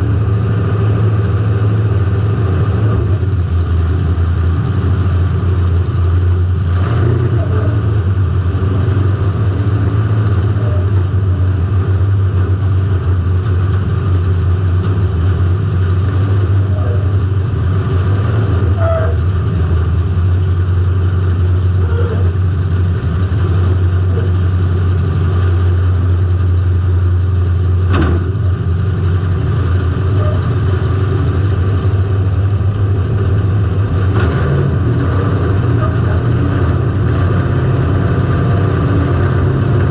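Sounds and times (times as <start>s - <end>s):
car engine running loud: 0.0s - 39.9s.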